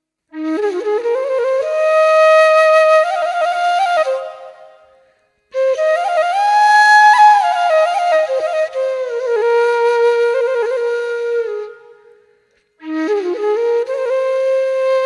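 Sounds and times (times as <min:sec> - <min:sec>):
solo flute melody: 0:00.2 - 0:15.0.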